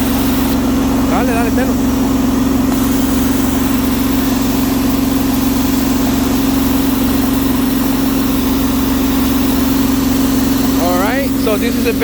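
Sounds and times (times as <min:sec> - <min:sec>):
carpet-cleaning machine running: 0:00.0 - 0:12.0.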